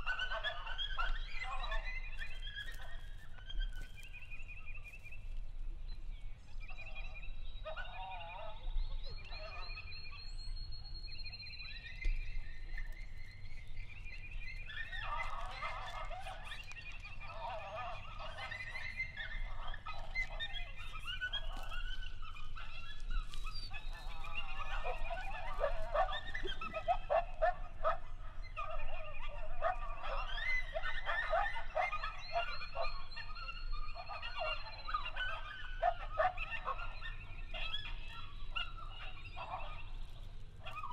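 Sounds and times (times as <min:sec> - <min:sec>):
wavering yipping calls: 0:00.0 - 0:04.1, 0:11.5 - 0:40.9.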